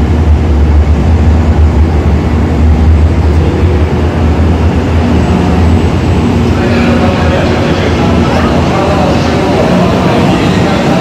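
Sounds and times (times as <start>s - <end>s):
train rumbling slowly: 0.0s - 11.0s.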